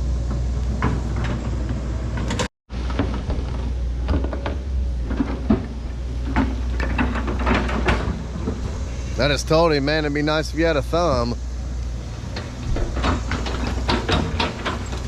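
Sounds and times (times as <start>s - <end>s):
heavy diesel engine running: 0.0s - 15.0s
clunks of steel and rock: 0.1s - 10.0s, 11.1s - 15.0s.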